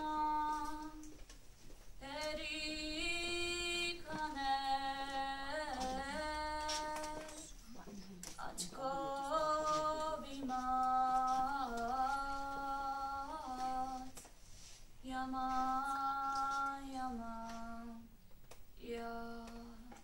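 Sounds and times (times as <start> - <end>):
girl singing unaccompanied: 0.0 - 1.3, 2.0 - 7.6, 8.2 - 14.2, 15.0 - 20.0.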